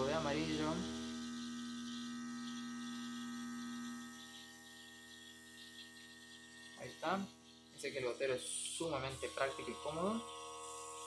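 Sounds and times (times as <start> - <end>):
electric hum: 0.0 - 11.0.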